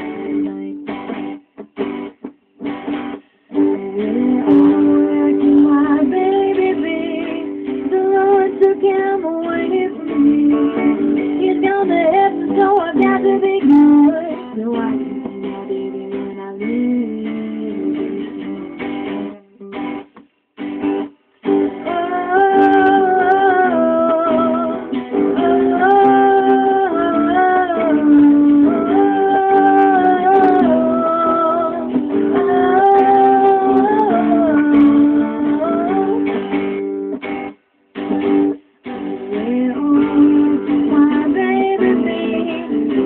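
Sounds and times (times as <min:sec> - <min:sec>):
acoustic guitar: 0:00.0 - 0:43.0
electric guitar: 0:00.0 - 0:43.0.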